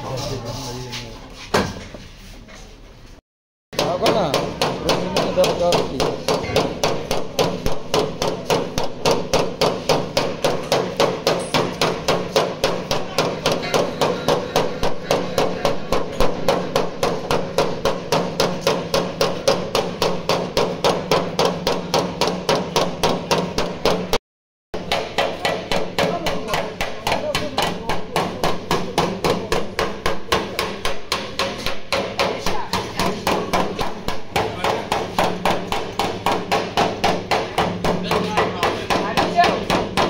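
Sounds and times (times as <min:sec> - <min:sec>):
hammer tapping sheet metal: 0:03.8 - 0:24.2, 0:24.8 - 0:40.0.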